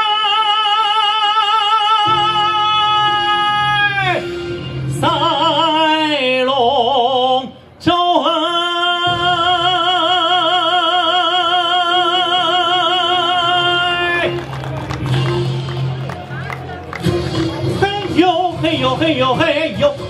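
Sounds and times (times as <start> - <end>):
man singing with vibrato: 0.0 - 14.4, 17.6 - 20.0
backing track: 0.0 - 20.0.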